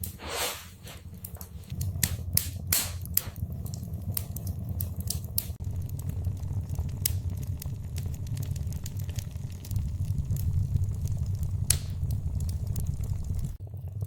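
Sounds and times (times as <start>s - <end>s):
low rumble of fire: 0.0s - 14.0s
wood fire crackling: 0.0s - 14.0s.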